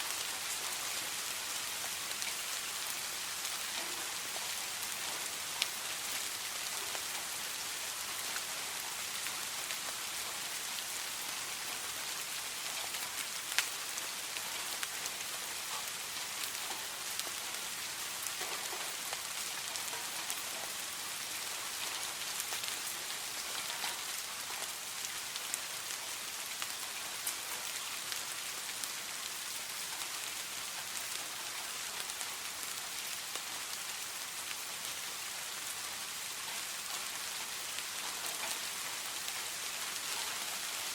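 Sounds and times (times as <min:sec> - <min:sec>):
gentle rain falling: 0:00.0 - 0:40.9.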